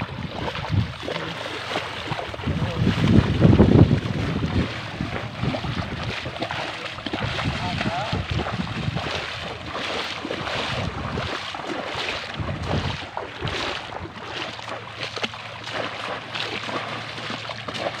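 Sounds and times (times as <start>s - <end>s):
river water splashing: 0.0s - 18.0s
wind buffeting microphone: 0.0s - 18.0s.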